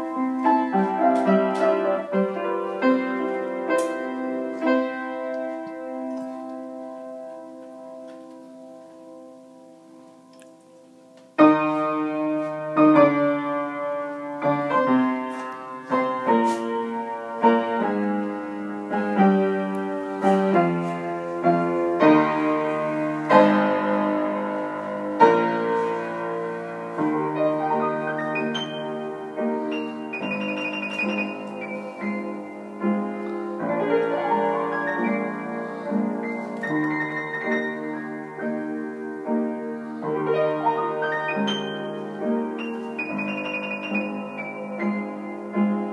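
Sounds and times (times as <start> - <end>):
upright piano chords: 0.0 - 45.9.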